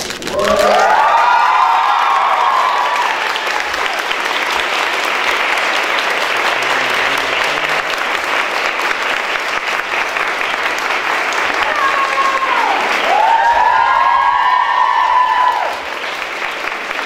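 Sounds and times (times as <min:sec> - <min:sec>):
crowd applauding: 0:00.0 - 0:17.0.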